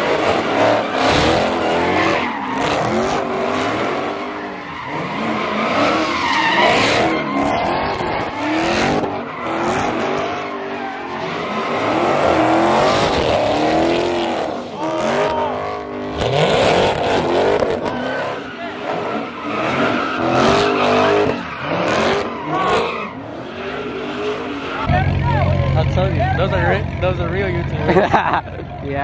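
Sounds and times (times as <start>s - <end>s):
car engines revving: 0.0s - 29.0s
tyres squealing on pavement: 0.2s - 27.1s.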